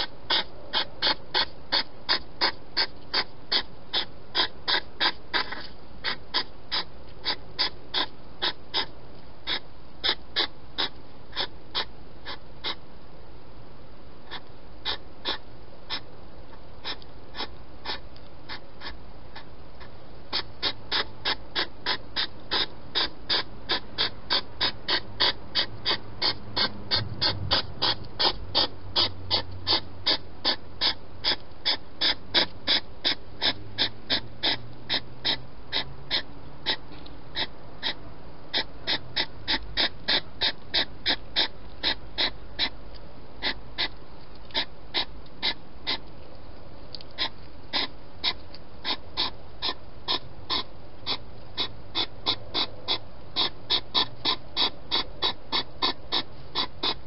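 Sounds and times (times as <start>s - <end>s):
hedgehog chewing food: 0.0s - 12.8s, 16.8s - 57.0s.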